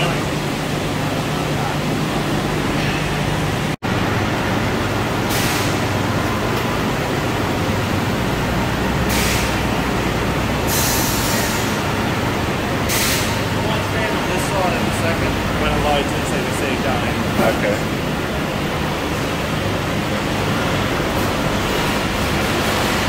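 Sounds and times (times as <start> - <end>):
factory machinery din: 0.0 - 23.0.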